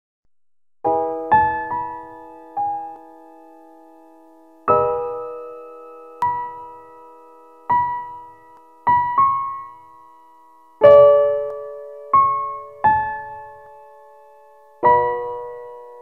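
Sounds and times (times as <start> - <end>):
slow gentle piano music: 0.8 - 16.0.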